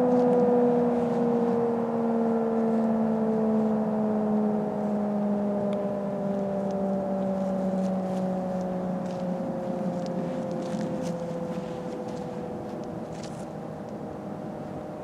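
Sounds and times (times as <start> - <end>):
warning siren winding down: 0.0 - 15.0.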